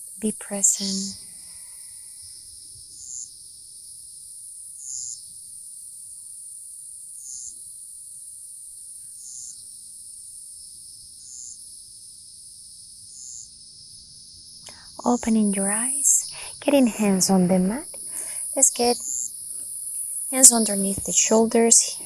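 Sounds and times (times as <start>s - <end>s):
cricket chirp: 0.0s - 22.0s
insects droning: 0.0s - 22.0s.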